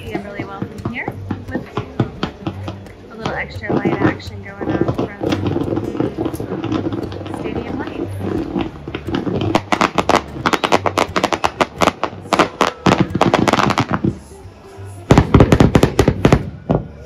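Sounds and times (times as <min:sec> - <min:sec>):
fireworks crackling bangs: 0:00.0 - 0:17.0
music: 0:00.0 - 0:17.0.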